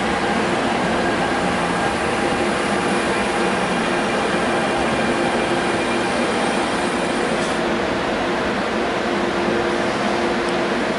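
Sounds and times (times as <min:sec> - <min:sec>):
rumble of train wheels on rail: 0:00.0 - 0:10.9.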